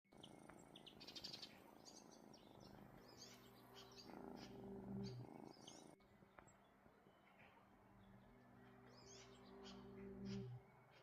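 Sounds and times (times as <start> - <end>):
low steady hum: 0.1 - 11.0
small birds chirping: 0.1 - 11.0.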